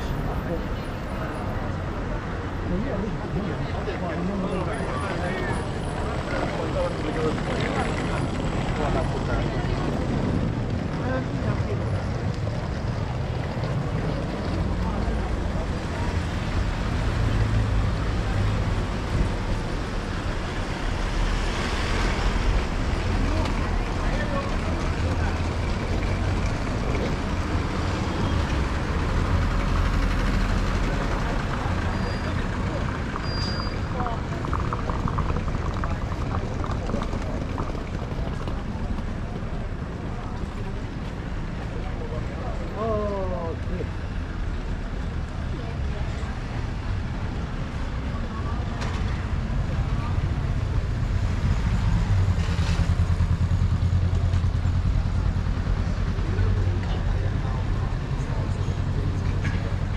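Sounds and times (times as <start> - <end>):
street noise: 0.0 - 59.9
vehicle engine rumble: 0.0 - 59.9.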